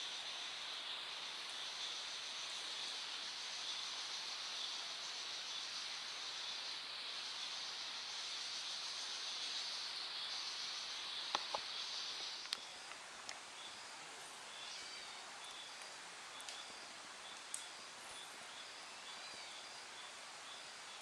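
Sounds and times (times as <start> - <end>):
insect chorus buzzing: 0.0 - 21.0.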